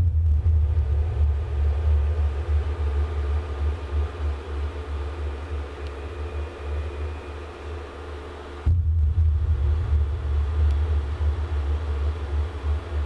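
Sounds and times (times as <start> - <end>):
low uneven rumble: 0.0 - 7.0, 8.6 - 13.0
faint steady hum: 0.0 - 13.0.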